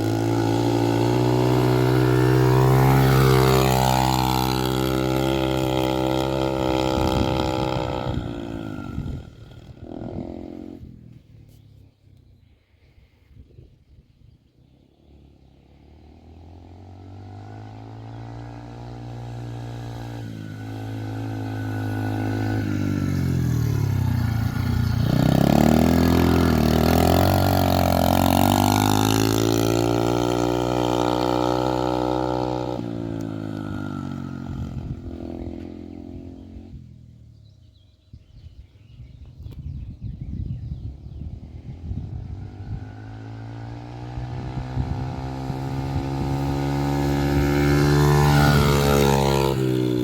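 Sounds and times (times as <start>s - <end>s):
dirt bike engine passing: 0.0s - 11.5s, 15.1s - 37.7s, 40.4s - 50.0s.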